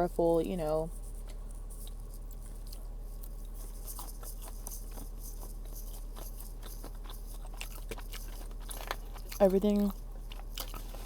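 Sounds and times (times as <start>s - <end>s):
chewing crispy fried food: 0.3s - 11.0s.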